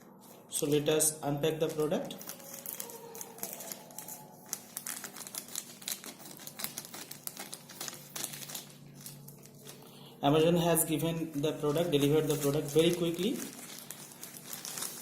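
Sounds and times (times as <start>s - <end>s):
packaging crinkling: 1.4s - 15.0s.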